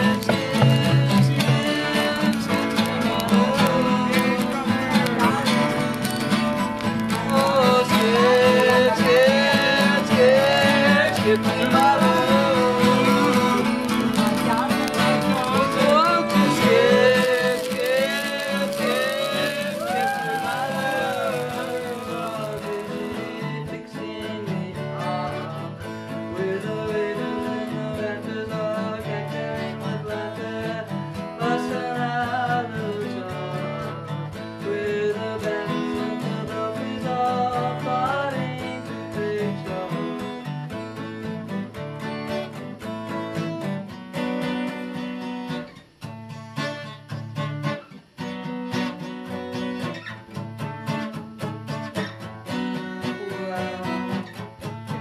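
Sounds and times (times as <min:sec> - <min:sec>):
acoustic guitars playing folk music: 0:00.0 - 0:55.0
strummed guitar chords: 0:00.0 - 0:55.0.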